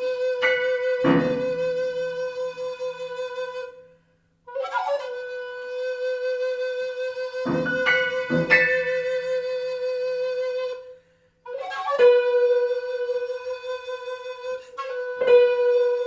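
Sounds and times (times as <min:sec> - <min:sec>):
flute holding high note: 0:00.0 - 0:03.9, 0:04.5 - 0:10.9, 0:11.5 - 0:16.0.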